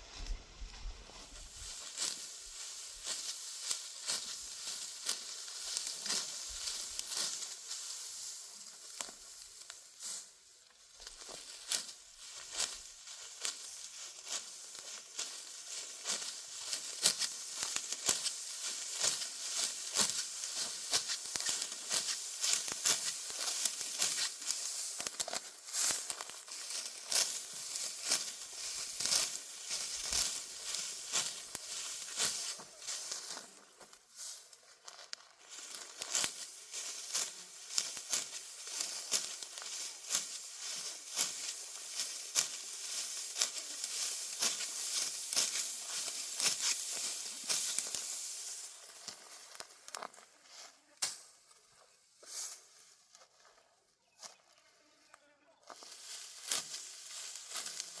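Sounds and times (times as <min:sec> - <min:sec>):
dry wheat stalks rustling: 0:00.0 - 0:58.0.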